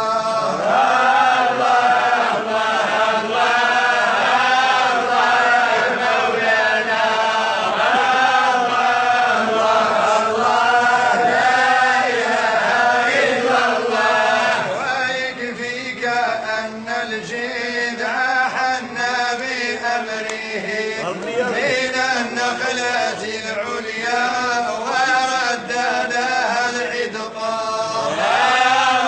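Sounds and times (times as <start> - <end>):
single voice chanting: 0.0 - 29.0.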